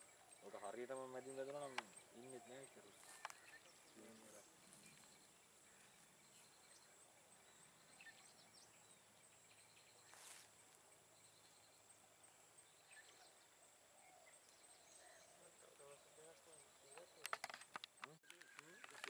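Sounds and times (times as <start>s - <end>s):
faint chirps: 0.0s - 19.0s.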